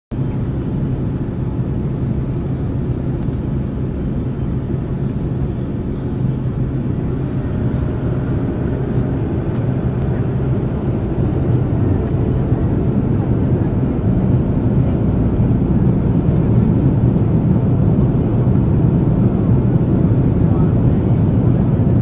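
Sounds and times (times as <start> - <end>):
airliner cabin engine roar: 0.1 - 22.0
steady hum: 0.1 - 22.0.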